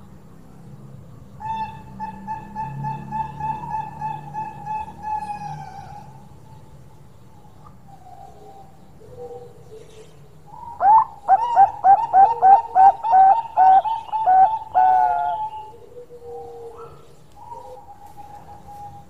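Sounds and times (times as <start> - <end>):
dove cooing song: 1.4 - 6.7, 7.3 - 19.0.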